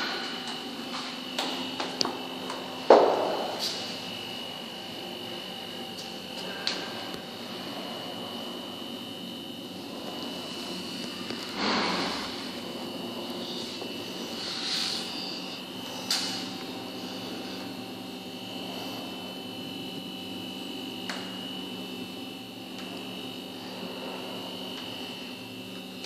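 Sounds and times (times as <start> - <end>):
mechanical hum with high whine: 0.0 - 26.0.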